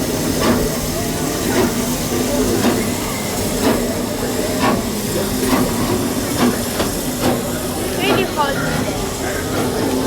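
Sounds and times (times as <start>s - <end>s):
steam hissing: 0.0s - 10.0s
steam locomotive chuffing: 0.0s - 10.0s.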